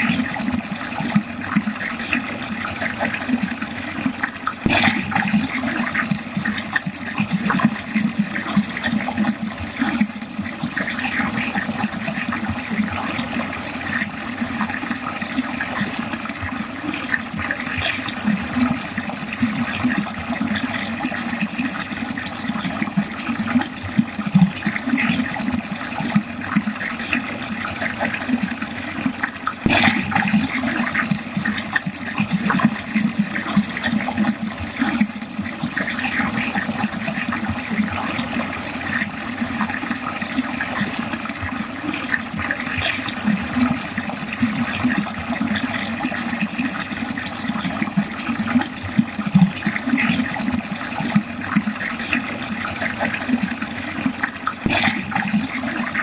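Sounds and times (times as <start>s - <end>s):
water flowing down a drain: 0.0s - 56.0s.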